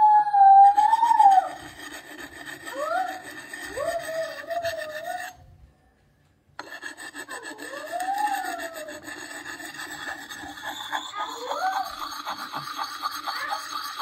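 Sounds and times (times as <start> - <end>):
stone rasping on steel: 0.7 - 5.4, 6.6 - 14.0.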